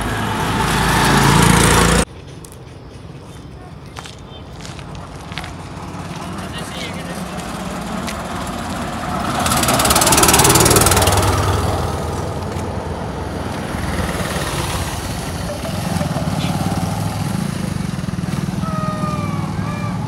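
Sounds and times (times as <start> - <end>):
auto-rickshaw engine passing: 0.0 - 2.1, 4.7 - 20.0
motorcycles approaching: 0.0 - 20.0.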